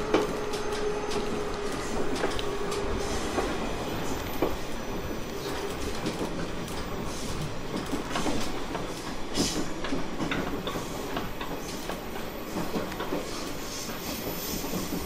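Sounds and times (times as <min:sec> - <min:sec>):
train wheel-on-rail noise: 0:00.0 - 0:15.0
wheels clicking over rail joints: 0:00.0 - 0:15.0.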